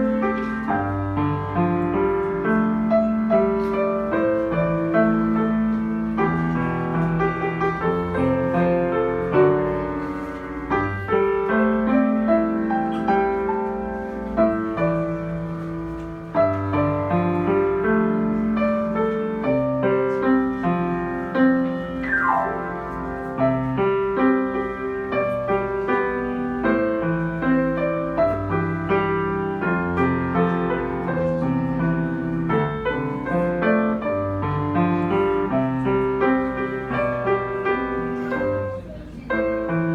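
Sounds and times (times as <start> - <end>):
solo piano pop arrangement: 0.0 - 39.9.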